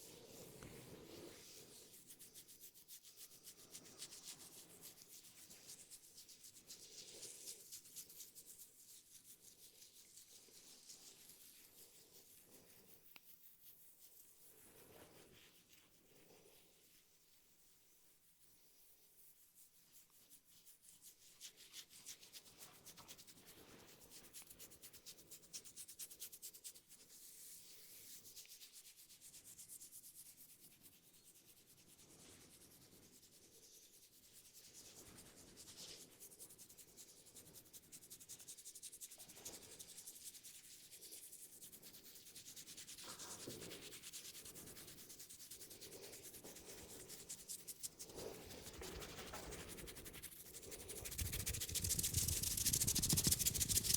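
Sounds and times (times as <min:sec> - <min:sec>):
hands rubbing hair and scalp: 0:00.0 - 0:53.9.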